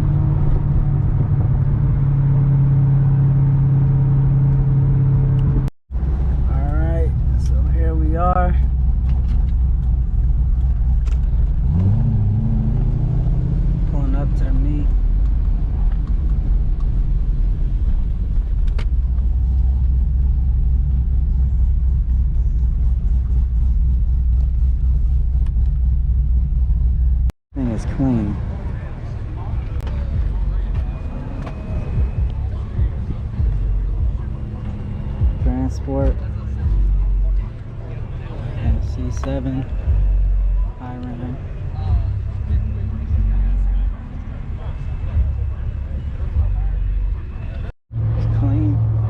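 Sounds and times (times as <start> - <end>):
car engine droning: 0.0 - 49.0.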